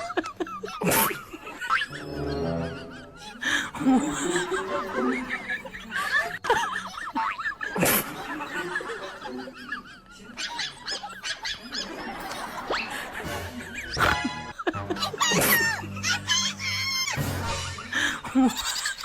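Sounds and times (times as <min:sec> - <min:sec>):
people laughing and snickering: 0:00.0 - 0:19.0.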